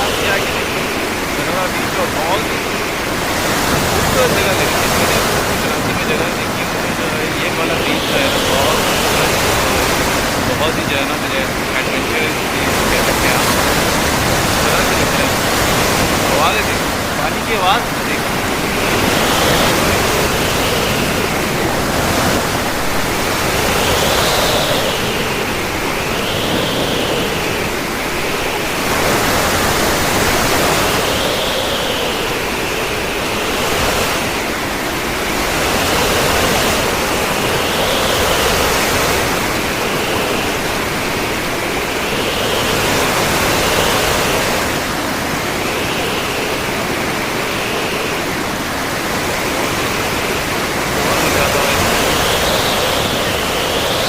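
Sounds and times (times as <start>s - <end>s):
rough sea surf: 0.0s - 54.0s.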